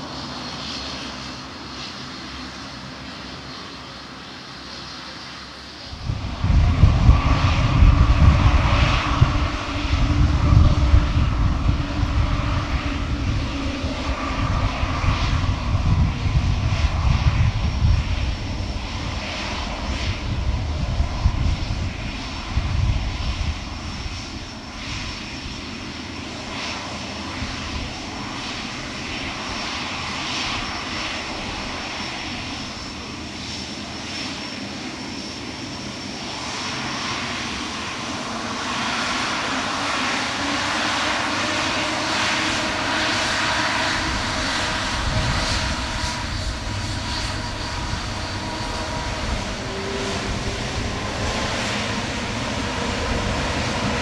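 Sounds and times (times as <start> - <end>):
jet engine high whine: 0.0 - 54.0
jet engines rumbling: 0.0 - 54.0.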